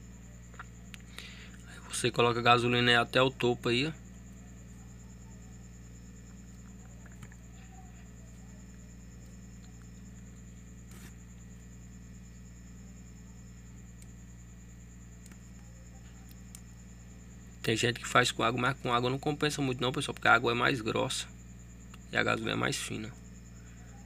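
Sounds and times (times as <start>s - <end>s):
low electrical hum: 0.0s - 24.0s
thin high whine: 0.9s - 24.0s.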